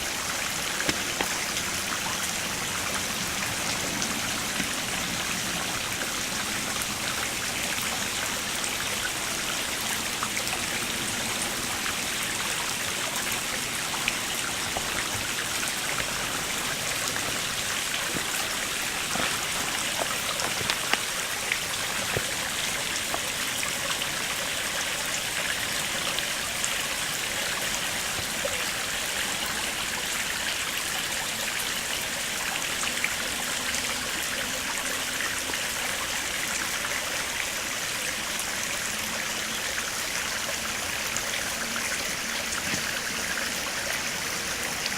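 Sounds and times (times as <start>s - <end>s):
shallow stream running: 0.0s - 44.9s
water drips and splashes: 0.0s - 44.9s.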